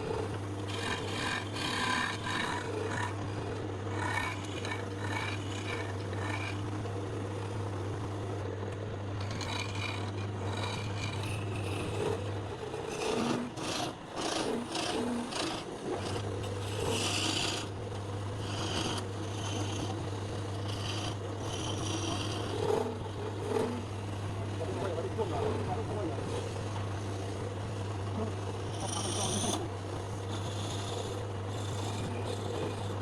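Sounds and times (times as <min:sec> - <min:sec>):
hand tool scraping wood: 0:00.0 - 0:06.7, 0:09.2 - 0:17.8, 0:18.4 - 0:33.0
steady low hum: 0:00.0 - 0:33.0.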